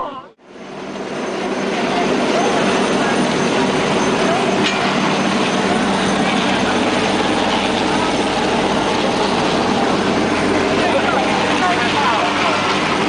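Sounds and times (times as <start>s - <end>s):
helicopter rotor and engine: 0.4s - 13.0s.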